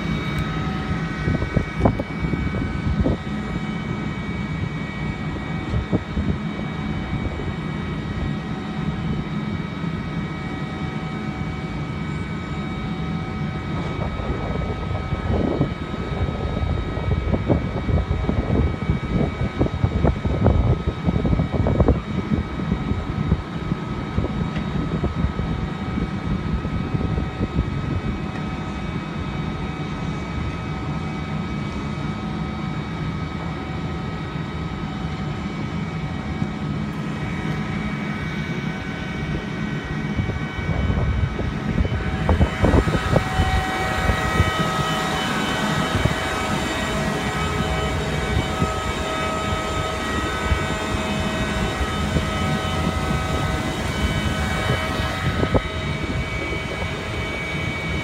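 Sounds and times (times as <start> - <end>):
distant freight train rumbling: 0.0 - 19.4, 21.6 - 58.0.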